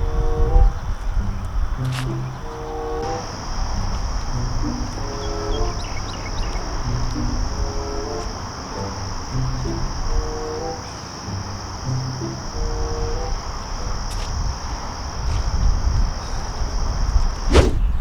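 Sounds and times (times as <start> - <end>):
background music of low notes: 0.0 - 17.1
crickets chirring: 0.0 - 18.0.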